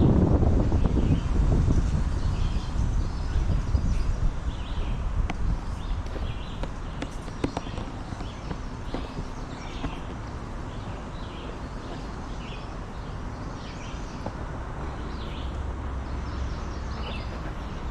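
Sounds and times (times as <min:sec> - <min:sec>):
wind blowing through trees: 0:00.0 - 0:17.9
wind rumble on microphone: 0:00.0 - 0:17.9
bird chirping: 0:02.1 - 0:17.9.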